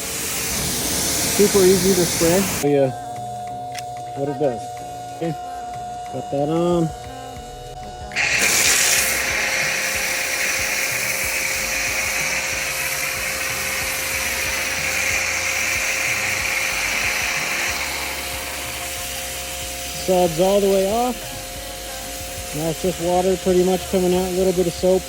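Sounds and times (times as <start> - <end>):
pressure washer spray hiss: 0.0 - 3.1, 4.4 - 25.0
pressure washer machine whine: 0.0 - 25.0.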